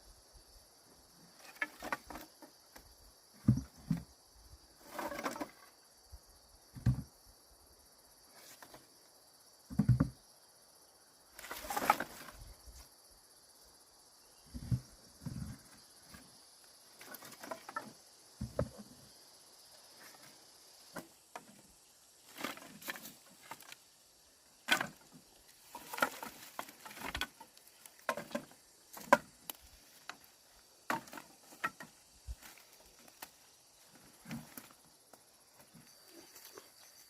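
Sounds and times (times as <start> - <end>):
high chirr of insects: 0.0 - 37.0.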